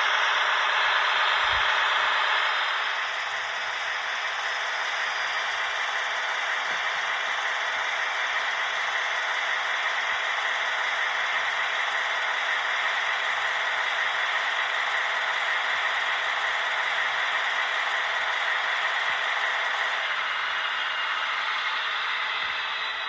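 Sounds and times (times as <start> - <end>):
model locomotive rushing noise: 0.0 - 23.0.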